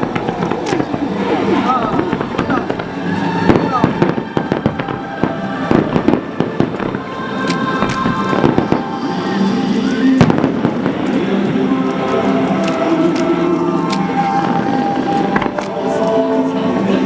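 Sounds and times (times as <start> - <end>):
fireworks bangs and crackles: 0.0 - 16.2
music: 0.0 - 17.0.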